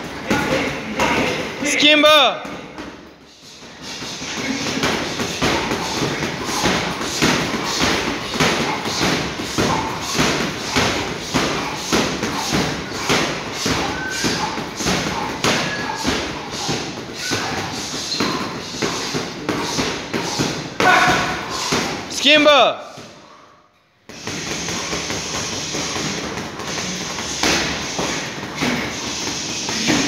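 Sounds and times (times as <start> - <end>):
boxing gloves punching heavy bag: 0.0 - 23.2, 24.1 - 30.0.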